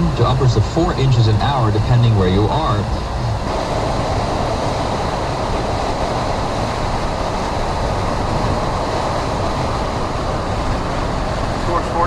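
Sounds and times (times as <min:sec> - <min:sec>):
rain: 0:00.0 - 0:12.0
strong wind rushing: 0:00.0 - 0:12.0
wind buffeting microphone: 0:00.0 - 0:12.0.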